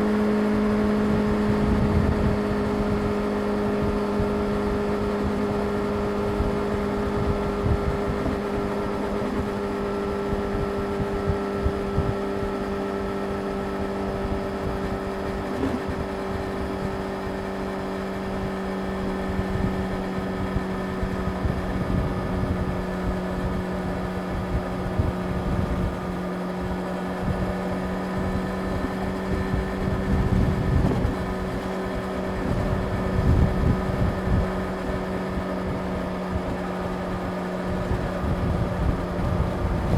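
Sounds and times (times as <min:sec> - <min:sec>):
motorcycle engine whining at high revs: 0:00.0 - 0:39.9
wind buffeting microphone: 0:01.1 - 0:39.9.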